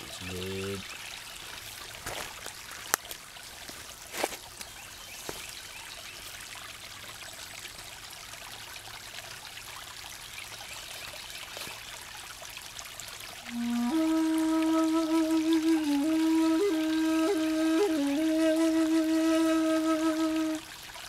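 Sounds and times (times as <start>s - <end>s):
creek trickling over stones: 0.0s - 21.0s.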